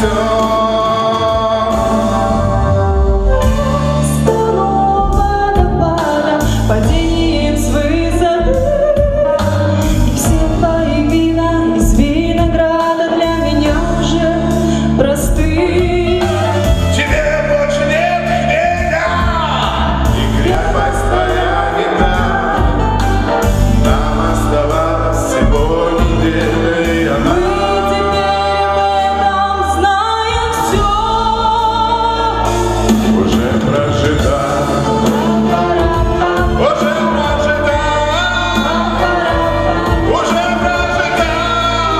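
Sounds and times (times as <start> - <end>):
amplified backing track: 0.0 - 41.9
man and woman singing pop song: 0.0 - 41.9.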